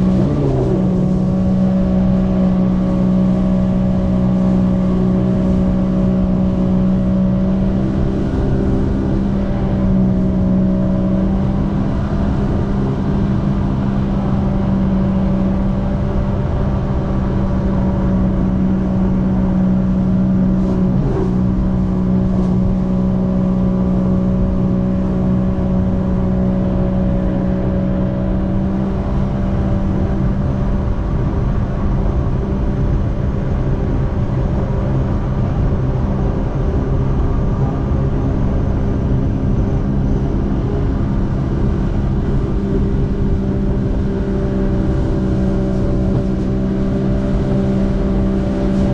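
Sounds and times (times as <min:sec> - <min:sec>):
jetski engine droning: 0:00.0 - 0:48.9.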